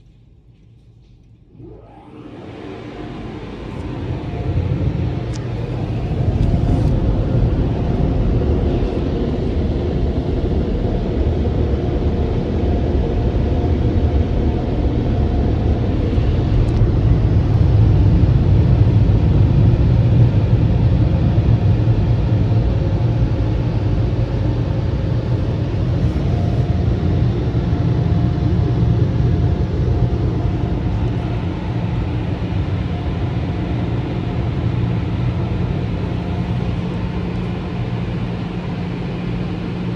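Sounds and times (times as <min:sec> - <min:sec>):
car wash machinery rumble: 0:00.0 - 0:39.9.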